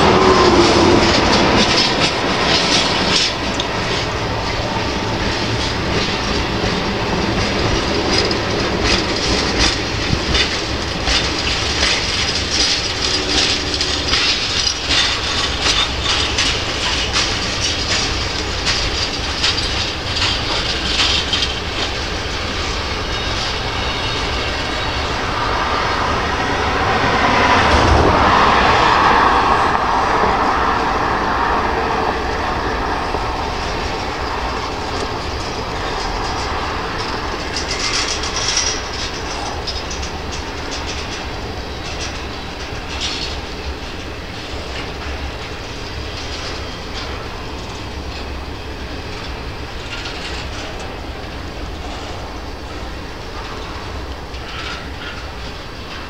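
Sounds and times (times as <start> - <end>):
train rolling rumble: 0.0 - 56.0
train wheels clicking over rail joints: 0.0 - 56.0.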